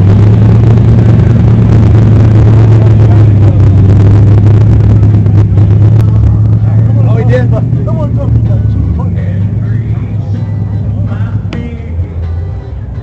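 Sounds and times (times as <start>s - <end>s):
vehicle motor droning: 0.0s - 13.0s.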